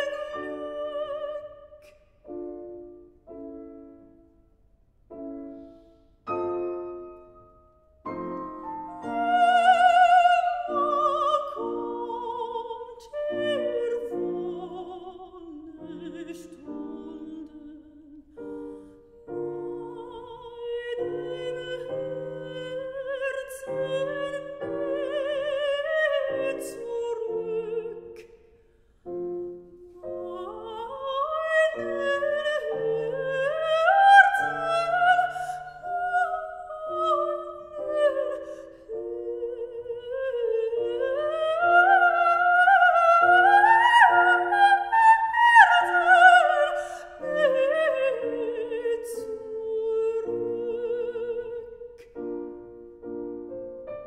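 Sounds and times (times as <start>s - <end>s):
operatic soprano singing: 0.0s - 2.0s, 8.8s - 28.4s, 29.5s - 52.6s
grand piano: 0.0s - 54.0s.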